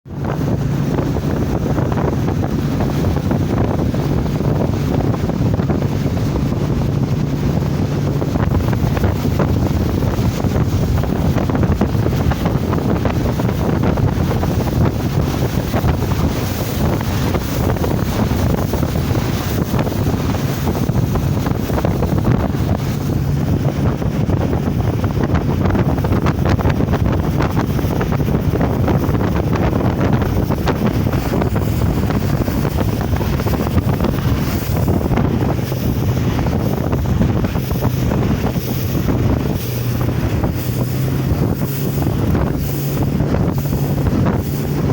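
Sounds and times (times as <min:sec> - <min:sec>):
low rumble of moving boat: 0:00.0 - 0:44.9
wind buffeting microphone: 0:00.0 - 0:44.9.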